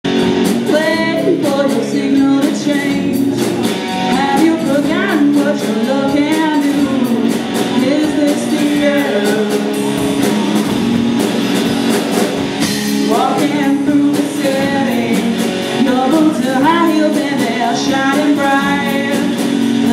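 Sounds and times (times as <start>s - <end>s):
drum kit: 0.0s - 19.9s
strummed guitar: 0.0s - 19.9s
person singing: 0.6s - 10.6s, 12.9s - 19.9s.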